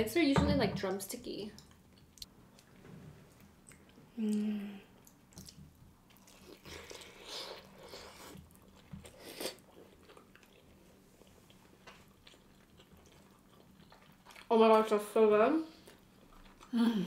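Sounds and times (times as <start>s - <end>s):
chewing: 1.6s - 4.4s, 5.0s - 14.9s, 15.7s - 17.0s.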